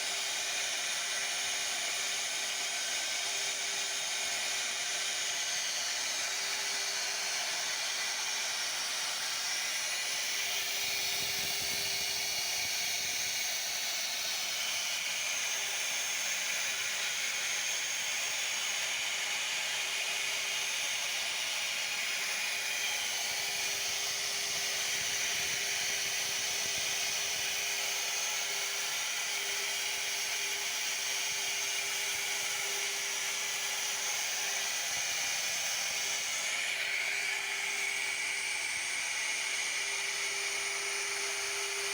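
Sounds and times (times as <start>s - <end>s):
router spindle cutting wood: 0.0s - 41.9s.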